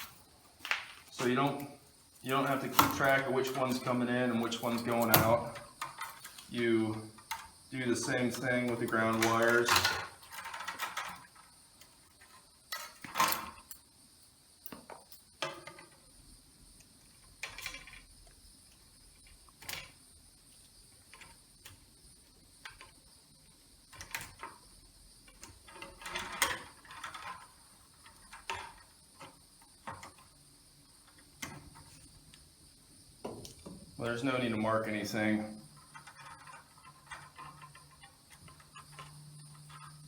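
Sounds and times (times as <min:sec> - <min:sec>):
copper wires being handled: 0:00.0 - 0:13.9, 0:14.6 - 0:40.0
crickets chirring: 0:00.0 - 0:40.0.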